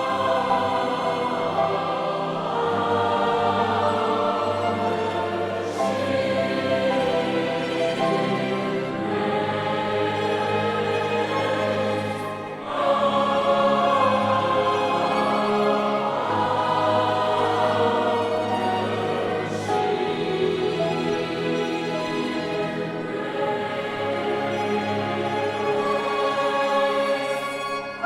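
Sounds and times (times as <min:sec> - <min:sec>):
choir singing long held notes: 0:00.0 - 0:28.0.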